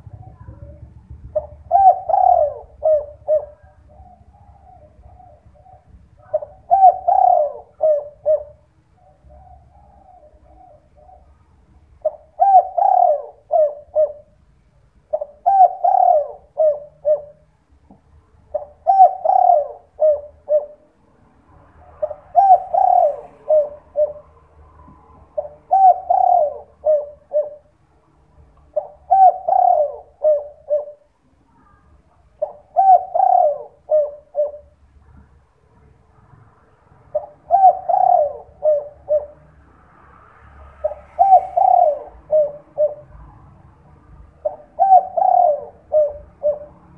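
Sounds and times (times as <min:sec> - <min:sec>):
dove cooing: 0:00.0 - 0:14.4, 0:15.0 - 0:21.0, 0:21.6 - 0:27.8, 0:28.6 - 0:35.4, 0:37.0 - 0:46.9.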